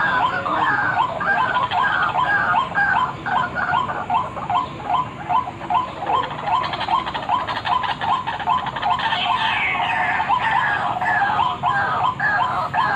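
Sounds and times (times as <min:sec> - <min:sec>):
bird calls repeated: 0:00.0 - 0:12.9.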